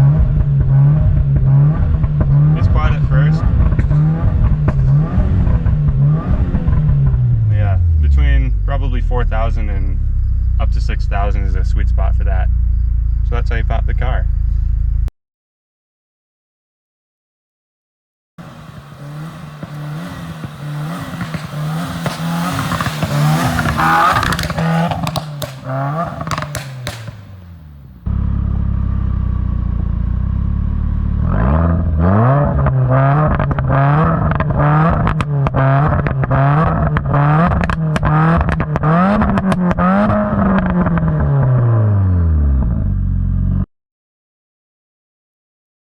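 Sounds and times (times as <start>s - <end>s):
car engine idling: 0.0s - 15.1s, 18.4s - 41.0s
car engine revving: 0.0s - 15.1s, 18.4s - 43.6s
exhaust crackling and popping: 0.0s - 15.1s, 18.4s - 41.7s.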